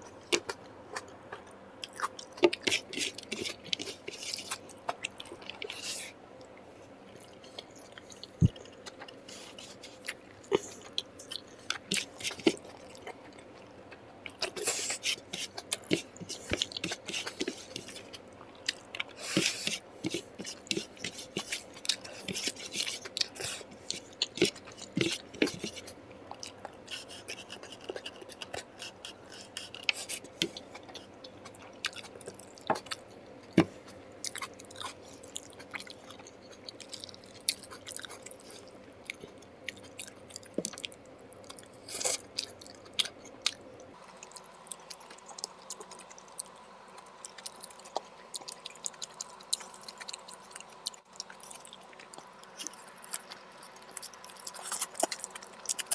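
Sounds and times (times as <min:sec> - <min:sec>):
man chewing food: 0:00.0 - 0:55.9.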